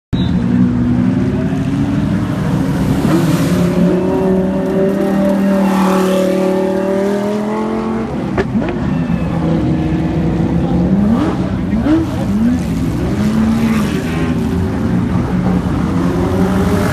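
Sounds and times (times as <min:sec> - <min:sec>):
race car engine revving past: 0:01.5 - 0:16.9.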